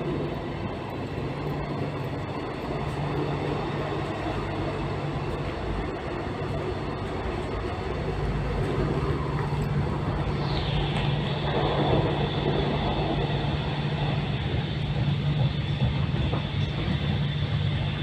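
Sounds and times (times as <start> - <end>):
electric train rumbling: 0.0 - 18.0
high steady whine: 0.0 - 18.0.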